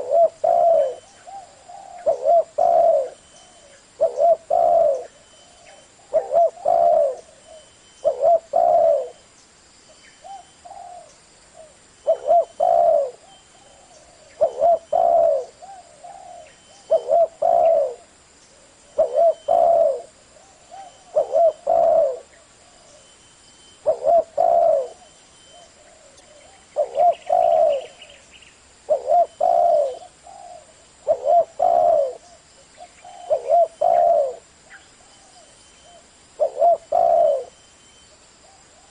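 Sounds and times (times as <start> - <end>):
dove cooing: 0.0 - 9.2, 10.2 - 23.1, 23.8 - 37.6.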